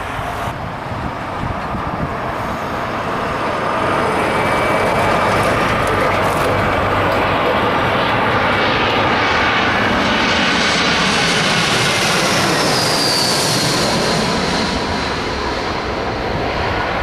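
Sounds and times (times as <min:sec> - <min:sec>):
jet engines passing close: 0:00.0 - 0:17.0.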